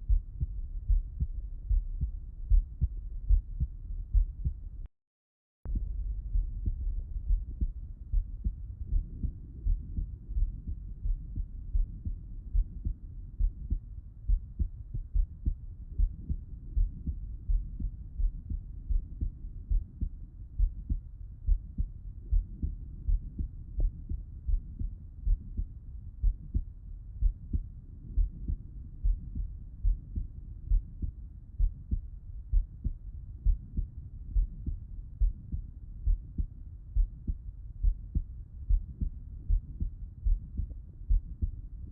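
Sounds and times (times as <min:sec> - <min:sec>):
heartbeat through stethoscope: 0:00.0 - 0:04.9, 0:05.7 - 0:41.9.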